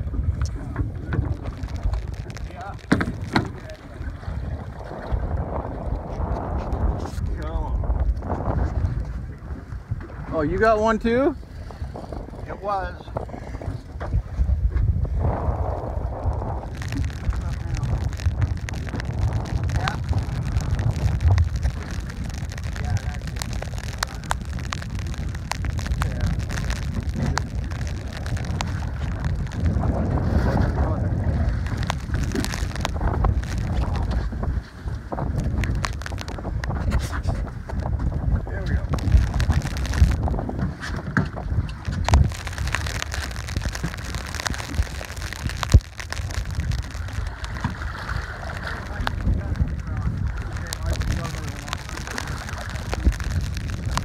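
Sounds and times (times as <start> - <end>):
water around boat: 0.0 - 54.0
wind rumble on microphone: 0.0 - 54.0.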